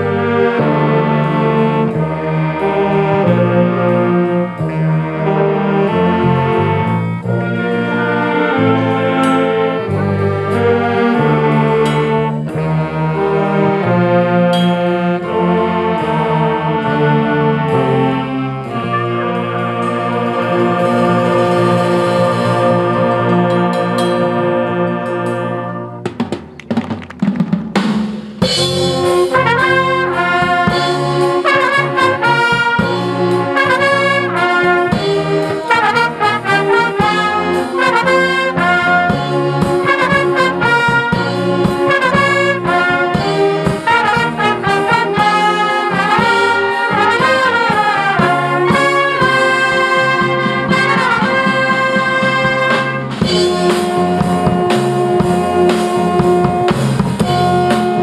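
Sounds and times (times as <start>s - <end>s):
concert wind band playing: 0.0s - 58.0s.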